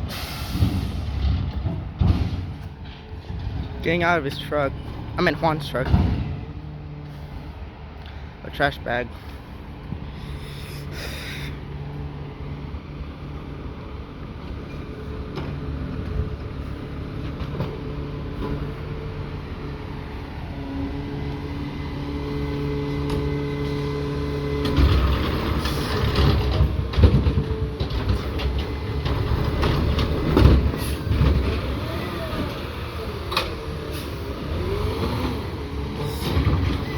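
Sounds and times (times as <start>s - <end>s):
garbage truck engine humming: 0.0s - 36.9s.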